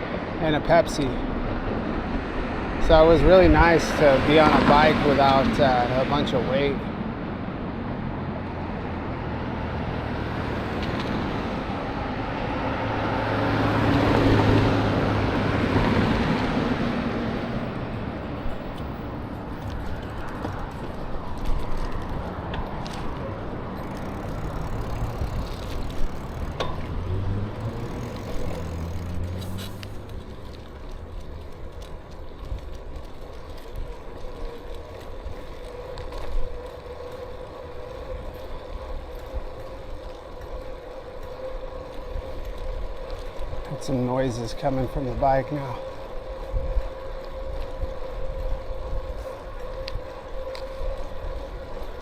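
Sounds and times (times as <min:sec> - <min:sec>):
bicycle rolling on trail: 0:00.0 - 0:52.0
steady whine from bicycle: 0:00.0 - 0:52.0.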